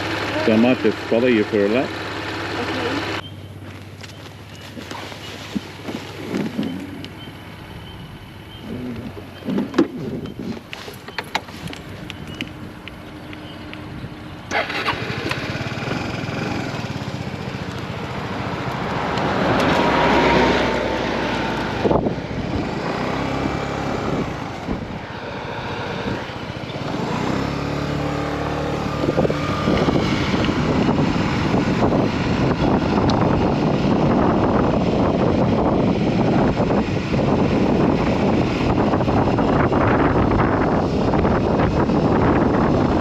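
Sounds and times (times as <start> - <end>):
motorcycle engine running: 0.0 - 43.0
wind rushing over microphone: 4.8 - 43.0.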